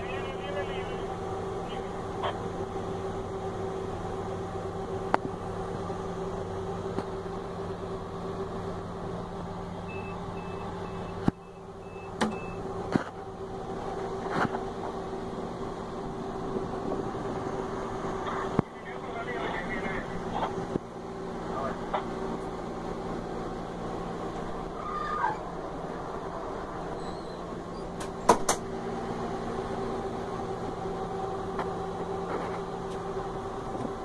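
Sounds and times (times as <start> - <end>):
locomotive engine humming: 0.0 - 34.0.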